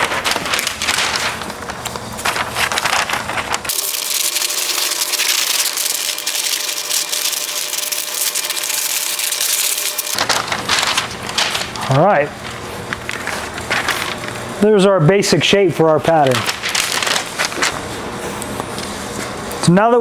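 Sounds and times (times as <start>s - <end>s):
scissors cutting paper: 0.0s - 14.5s, 16.1s - 17.9s.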